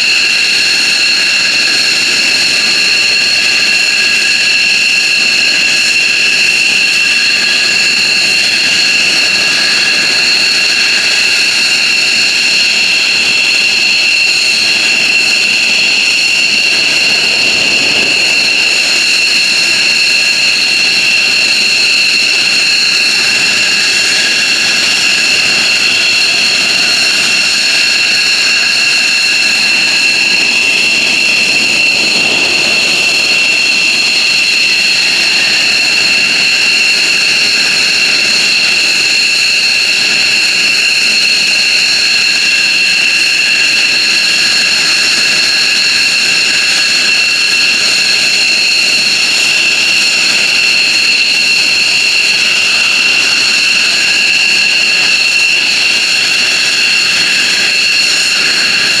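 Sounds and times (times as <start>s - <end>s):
jet engines whining: 0.0s - 59.0s
rushing jet exhaust: 0.0s - 59.0s.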